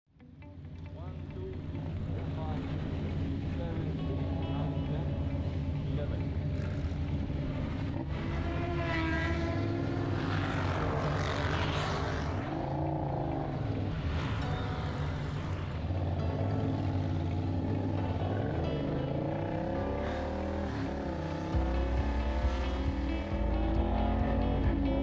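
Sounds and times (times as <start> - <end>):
vehicle engine droning: 0.2 - 25.0.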